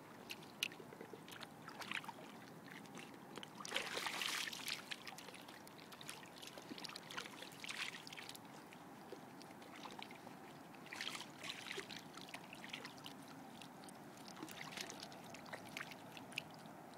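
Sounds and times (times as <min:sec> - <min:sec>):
dog splashing in shallow water: 0:00.0 - 0:16.9
water trickling: 0:00.0 - 0:16.9.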